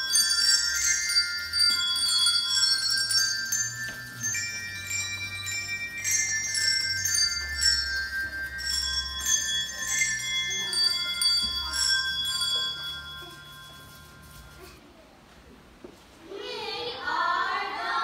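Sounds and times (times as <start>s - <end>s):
small bells ringing a tune: 0.0s - 14.8s.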